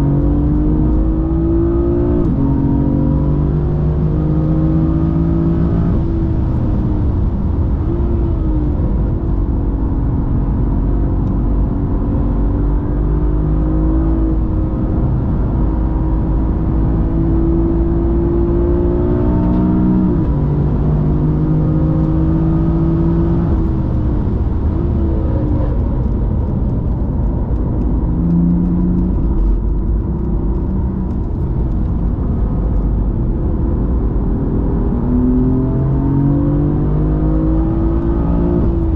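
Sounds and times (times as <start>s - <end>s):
car engine revving: 0.0s - 38.9s
road and tyre noise: 0.0s - 38.9s.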